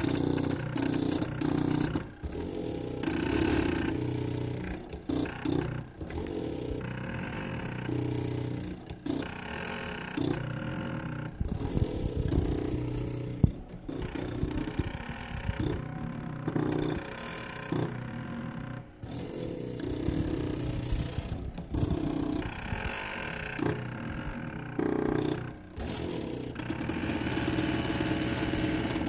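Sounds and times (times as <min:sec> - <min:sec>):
stepper motors buzzing and whining: 0:00.0 - 0:29.0.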